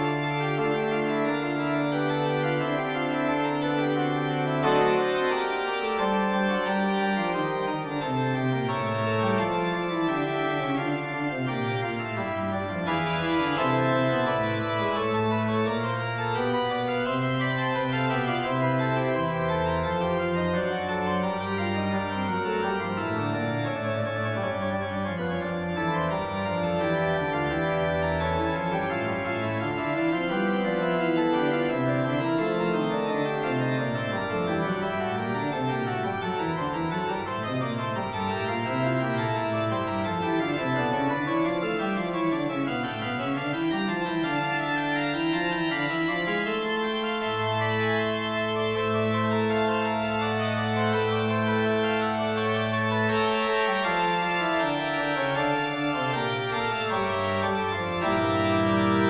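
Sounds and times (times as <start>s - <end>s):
organ fugue music: 0.0s - 59.0s.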